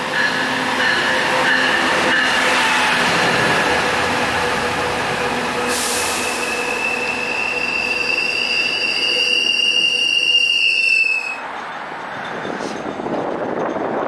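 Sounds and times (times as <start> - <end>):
train wheels rumbling: 0.0 - 14.0
high-pitched metallic squeal: 0.2 - 11.5.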